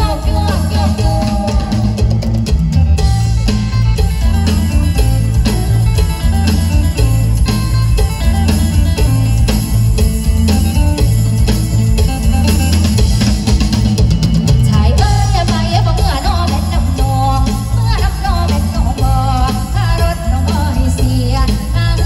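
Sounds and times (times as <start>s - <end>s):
heavy bass and drum beat: 0.0s - 22.0s
live band folk music: 0.0s - 22.0s.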